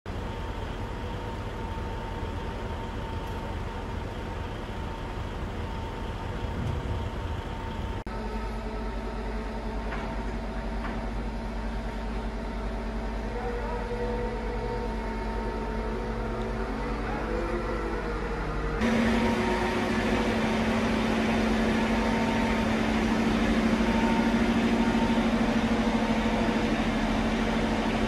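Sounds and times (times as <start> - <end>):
diesel engine running: 0.1 - 28.0
faint engine whine: 0.1 - 28.0.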